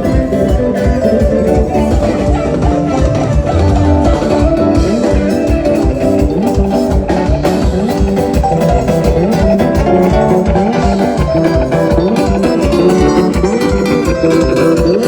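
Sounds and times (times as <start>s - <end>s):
upbeat band music: 0.0s - 15.0s.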